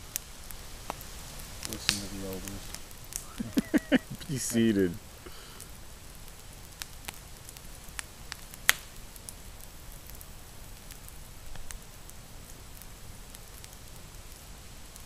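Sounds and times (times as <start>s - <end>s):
campfire crackling: 0.0s - 15.0s
sharp pops from burning wood: 0.0s - 15.0s.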